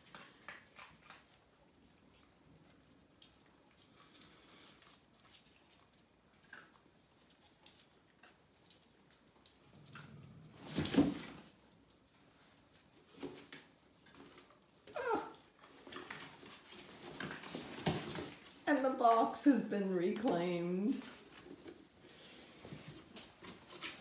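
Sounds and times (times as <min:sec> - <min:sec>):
puppies scuffling: 0:00.0 - 0:24.0
puppy paws on cork floor: 0:00.0 - 0:24.0.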